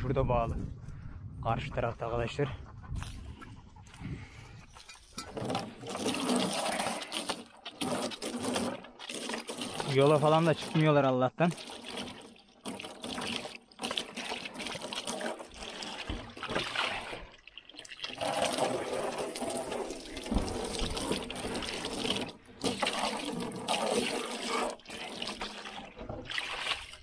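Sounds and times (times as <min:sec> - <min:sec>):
water running into a tub: 0:05.4 - 0:27.0.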